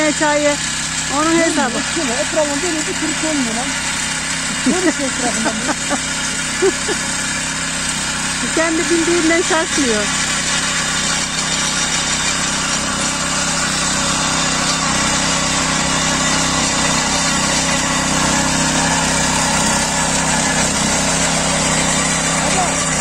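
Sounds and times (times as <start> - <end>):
tiller engine running under load: 0.0 - 23.0
tines churning dry soil: 0.0 - 23.0.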